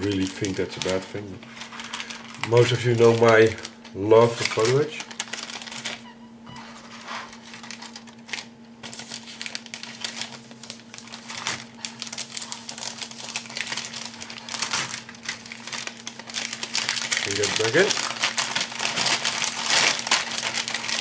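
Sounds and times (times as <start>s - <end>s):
plastic bag crinkling: 0.0s - 6.0s, 6.6s - 21.0s.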